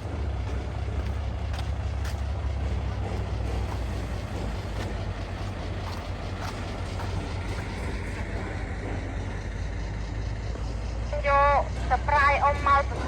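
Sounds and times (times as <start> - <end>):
heavy diesel machinery rumbling: 0.0 - 13.0.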